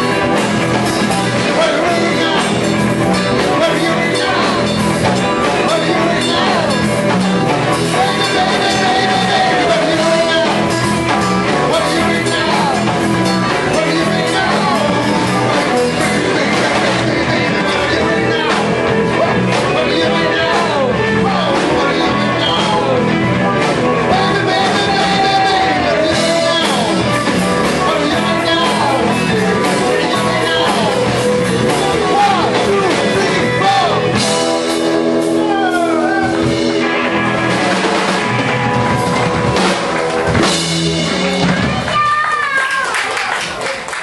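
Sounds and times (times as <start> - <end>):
people singing: 0.0 - 38.0
rock band playing: 0.0 - 44.0.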